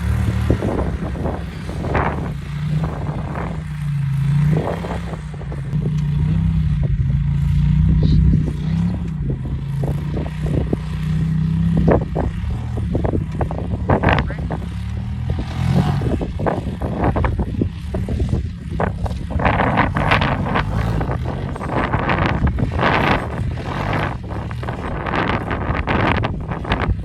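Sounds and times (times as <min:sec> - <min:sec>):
vehicle engine under load: 0:00.0 - 0:27.0.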